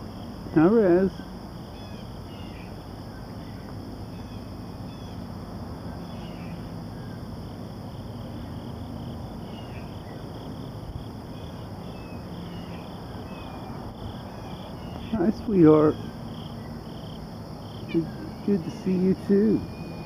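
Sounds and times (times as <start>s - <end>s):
high insect drone: 0.0s - 20.0s
low steady hum: 0.0s - 20.0s.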